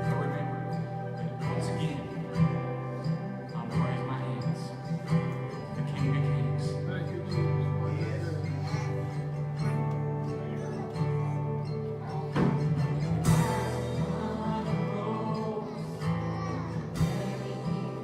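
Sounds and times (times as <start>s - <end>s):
church worship music with guitar: 0.0s - 18.0s.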